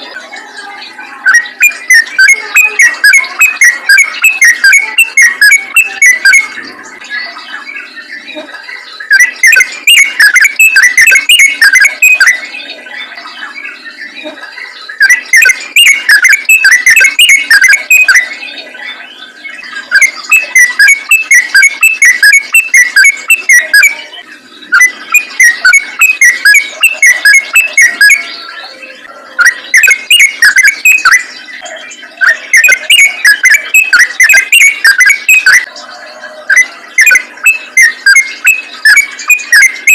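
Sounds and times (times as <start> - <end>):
bird bubbling chatter song: 0.0 - 35.8.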